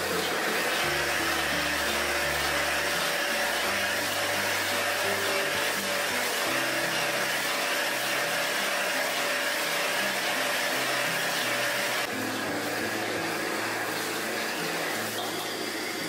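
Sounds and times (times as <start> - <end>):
food frying in a wok: 0.0 - 16.0
gas burner roaring: 0.0 - 16.0.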